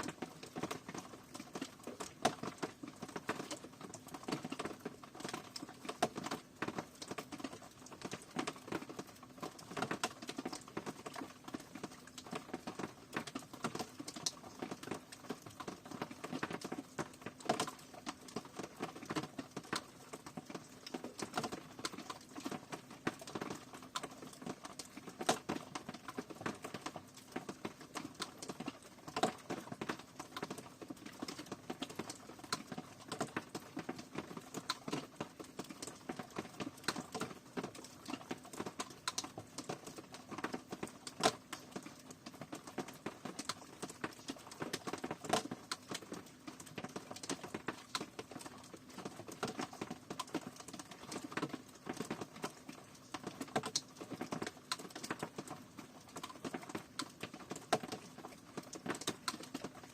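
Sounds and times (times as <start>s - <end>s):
raindrops tapping over hiss: 0.0s - 59.9s.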